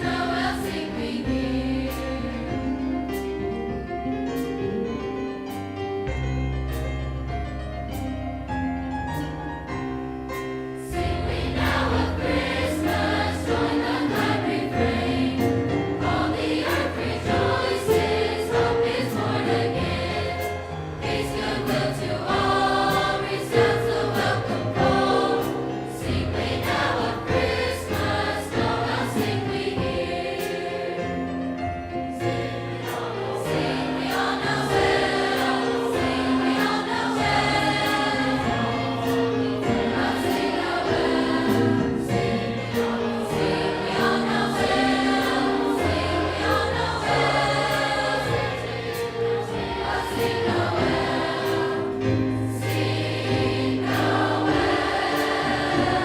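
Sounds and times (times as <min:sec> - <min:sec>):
choir singing: 0:00.0 - 0:03.2, 0:10.8 - 0:56.0
piano: 0:00.0 - 0:56.0.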